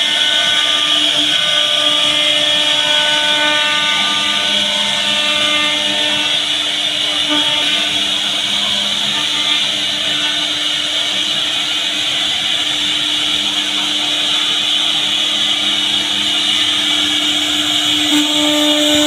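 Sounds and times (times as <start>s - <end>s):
router spindle whine: 0.0s - 19.0s.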